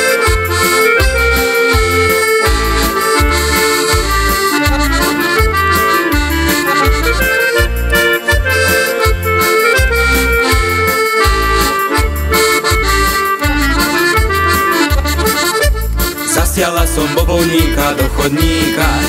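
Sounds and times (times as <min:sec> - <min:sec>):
folk instrumental melody: 0:00.0 - 0:19.0
steady bass notes: 0:00.0 - 0:19.0.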